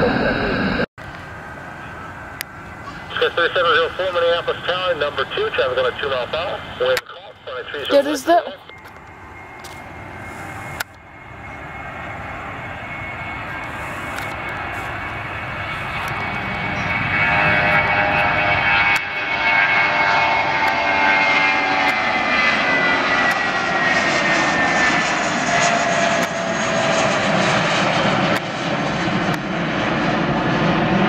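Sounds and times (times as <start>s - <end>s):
airliner engines rushing and whining: 0.0s - 31.0s.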